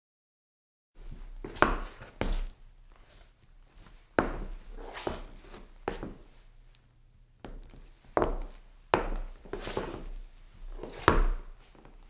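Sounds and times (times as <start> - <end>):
footsteps scuffing on wooden floor: 1.0 - 6.4, 7.4 - 12.0.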